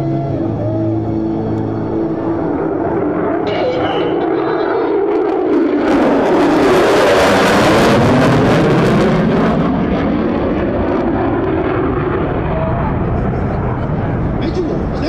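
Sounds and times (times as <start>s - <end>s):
jet flying low overhead: 0.0s - 15.0s.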